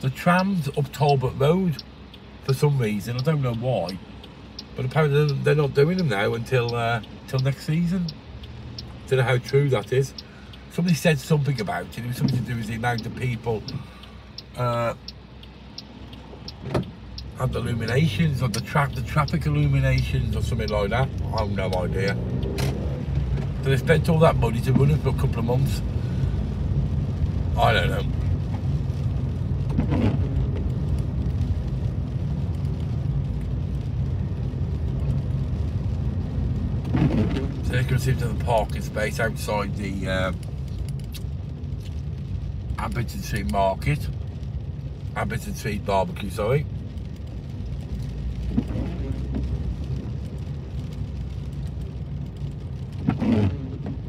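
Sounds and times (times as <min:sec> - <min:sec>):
car engine and road rumble: 0:00.0 - 0:54.0
faint ticks: 0:00.2 - 0:54.0.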